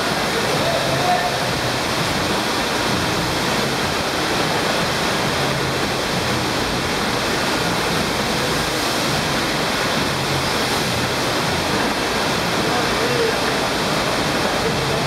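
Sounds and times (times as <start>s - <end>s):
rushing water jet: 0.0s - 15.0s.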